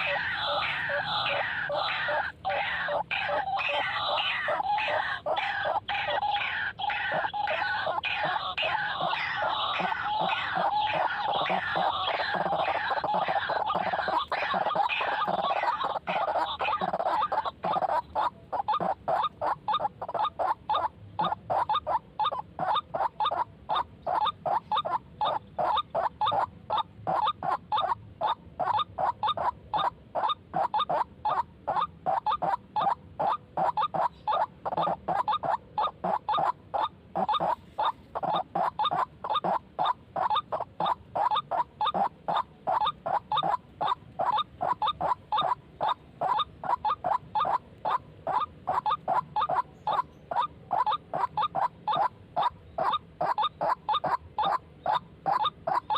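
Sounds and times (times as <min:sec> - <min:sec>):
waterhen calling repeated notes: 0:00.0 - 0:55.9.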